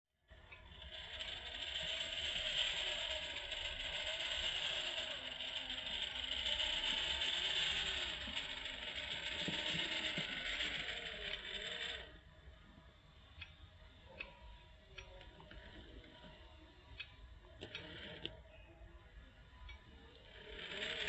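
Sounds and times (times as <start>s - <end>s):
toy car motor whining: 0.3s - 21.0s.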